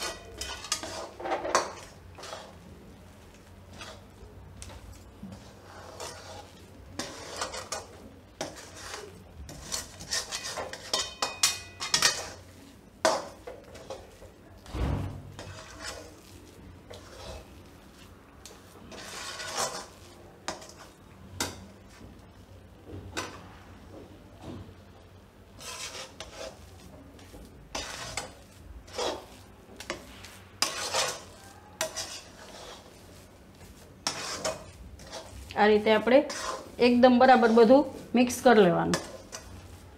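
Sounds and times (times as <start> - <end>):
spatula scraping a steel pan: 0.0 - 2.6, 3.7 - 14.3, 15.0 - 22.0, 25.6 - 39.9.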